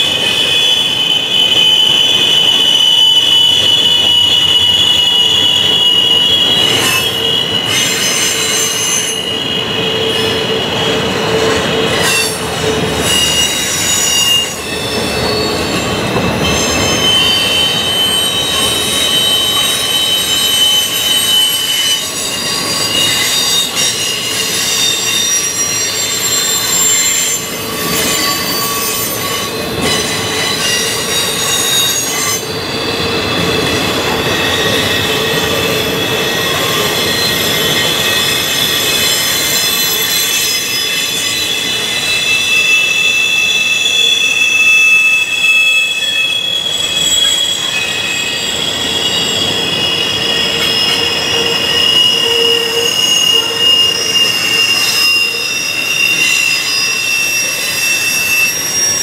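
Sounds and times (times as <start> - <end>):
rumble of train wheels on track: 0.0 - 59.0
wheel flanges squealing against rail: 0.0 - 59.0.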